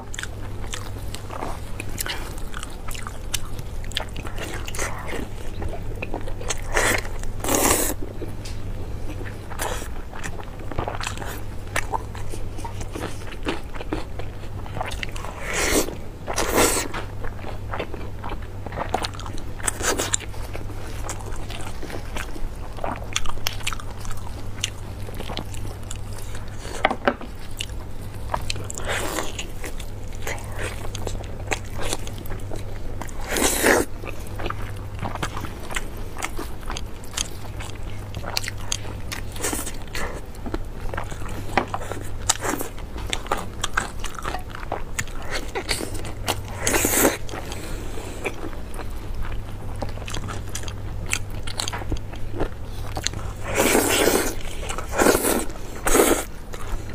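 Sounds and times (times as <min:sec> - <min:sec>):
chewing and biting meat: 0:00.0 - 0:08.2, 0:09.1 - 0:56.9
steady low hum: 0:00.0 - 0:56.9.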